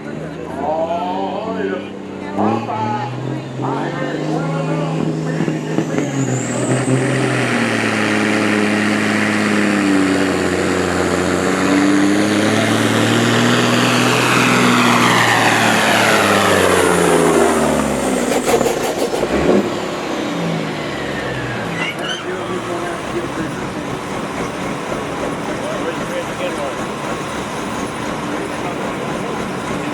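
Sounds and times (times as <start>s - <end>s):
engine revving hard under load: 0.0s - 29.9s.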